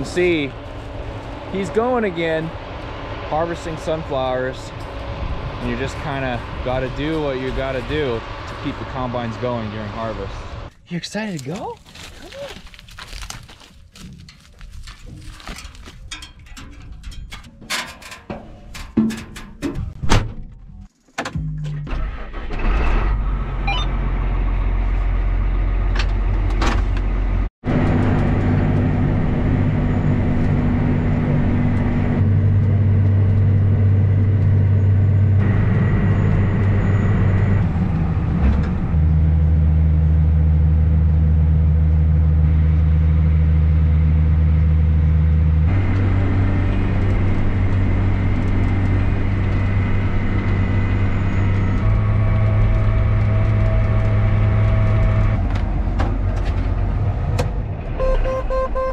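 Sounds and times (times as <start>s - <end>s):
tractor engine running: 0.0s - 11.6s, 23.4s - 58.9s.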